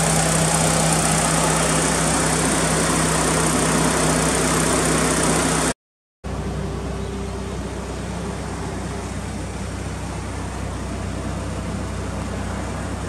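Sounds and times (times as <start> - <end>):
car engine idling: 0.0 - 5.7, 6.3 - 13.0.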